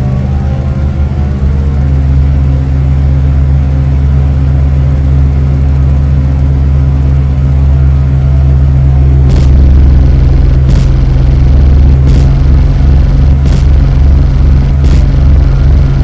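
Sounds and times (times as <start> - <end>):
deep bass drone: 0.0 - 16.0.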